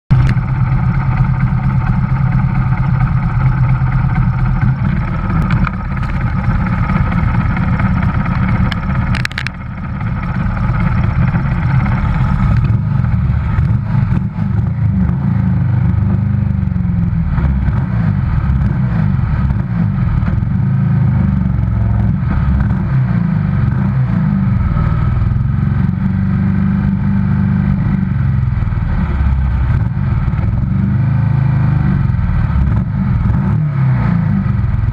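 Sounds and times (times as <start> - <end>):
racing motorcycle engine running: 0.1 - 34.9.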